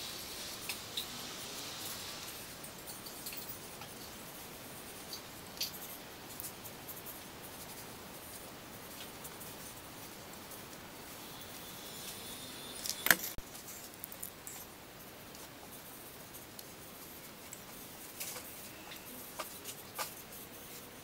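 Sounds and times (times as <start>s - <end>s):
faint room noise: 0.0s - 21.0s.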